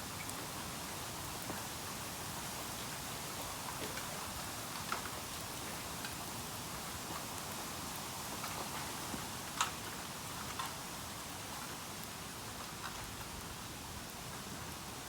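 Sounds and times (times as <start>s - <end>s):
bamboo fire hissing and crackling: 0.0s - 15.0s.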